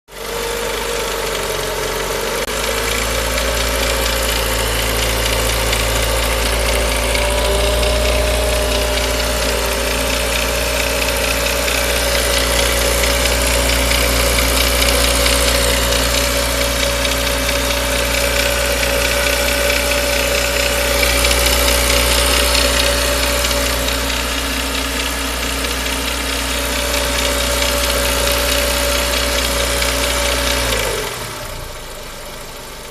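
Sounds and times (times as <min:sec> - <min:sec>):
car engine running: 0:00.1 - 0:32.9
metallic engine noise: 0:02.5 - 0:30.0.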